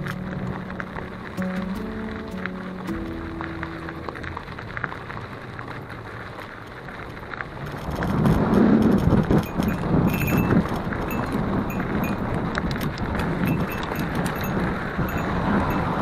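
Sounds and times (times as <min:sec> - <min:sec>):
bike rattling and clicking: 0:00.0 - 0:16.0
tyre noise: 0:00.0 - 0:16.0
wind noise: 0:00.0 - 0:16.0.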